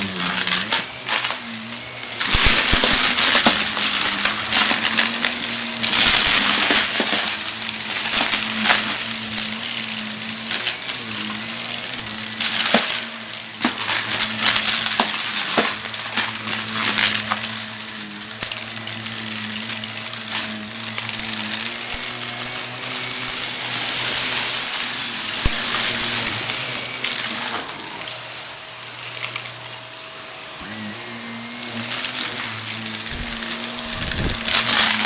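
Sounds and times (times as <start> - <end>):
grit crackling up nozzle: 0.0 - 29.8, 30.6 - 35.0
vacuum cleaner running: 0.0 - 35.0.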